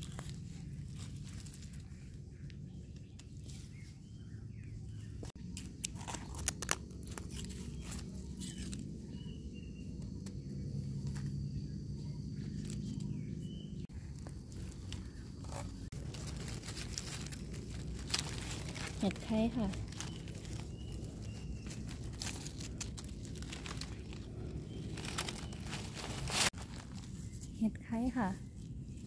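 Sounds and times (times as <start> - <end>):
crunching of dry leaves and soil: 0.0 - 29.0.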